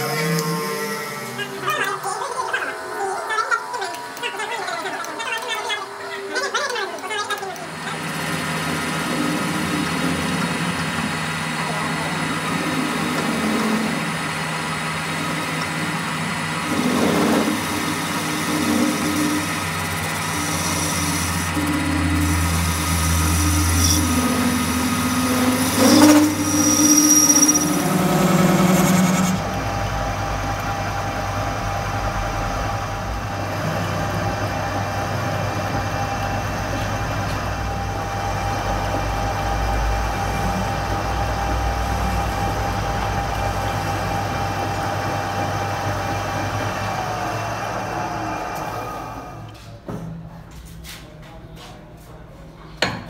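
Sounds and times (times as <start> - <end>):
metal lathe humming: 0.0 - 49.5.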